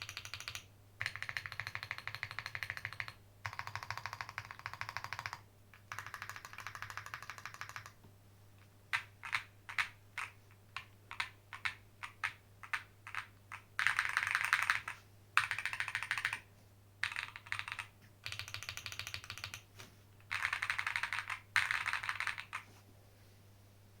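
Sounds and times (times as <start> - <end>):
mechanical keyboard typing: 0.0 - 8.0, 8.9 - 16.4, 17.0 - 22.7.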